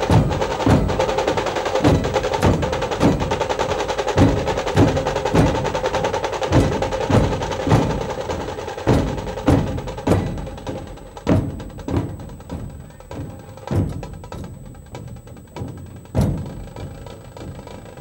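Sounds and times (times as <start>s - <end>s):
fast rattle of smaller drums: 0.0s - 18.0s
heavy barrel drum strokes: 0.0s - 18.0s.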